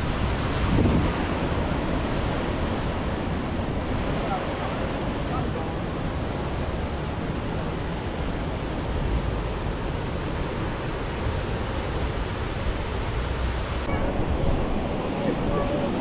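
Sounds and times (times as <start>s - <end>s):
ocean surf on beach: 0.0s - 16.0s
wind buffeting microphone: 0.0s - 16.0s.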